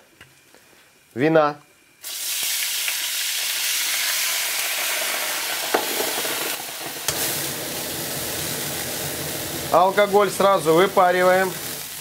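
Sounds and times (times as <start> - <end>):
wine sizzling in hot pan: 2.0 - 12.0.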